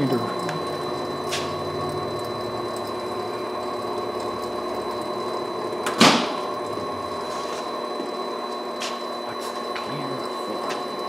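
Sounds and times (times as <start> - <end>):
furnace mechanical hum: 0.0 - 11.0.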